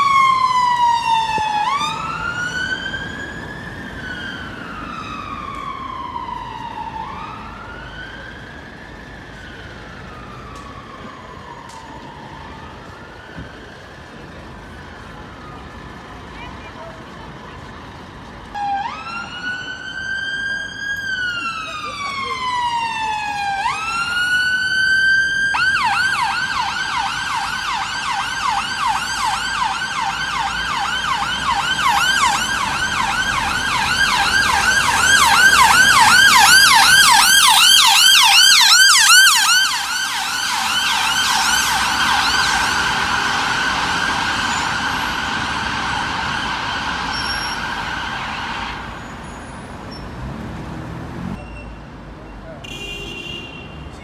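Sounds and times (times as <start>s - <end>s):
ambulance siren: 0.0s - 51.4s.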